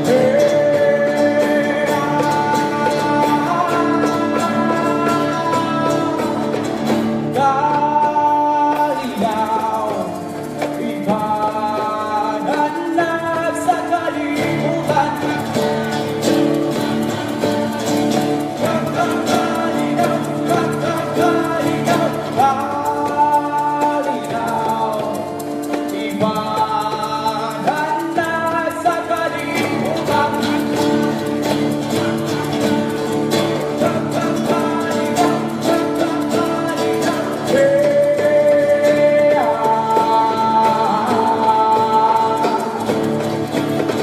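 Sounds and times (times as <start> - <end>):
hand drum: 0.0 - 44.0
people singing: 0.0 - 44.0
strummed acoustic guitar: 0.0 - 44.0.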